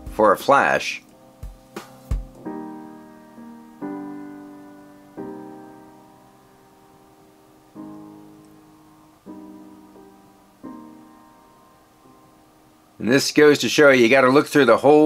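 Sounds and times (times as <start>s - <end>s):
slow piano chords: 0.0s - 13.1s.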